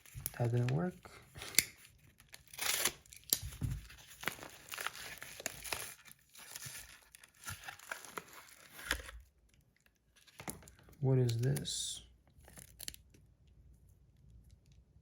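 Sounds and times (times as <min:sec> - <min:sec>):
packaging crinkling and tearing: 0:00.0 - 0:11.7, 0:12.4 - 0:13.2.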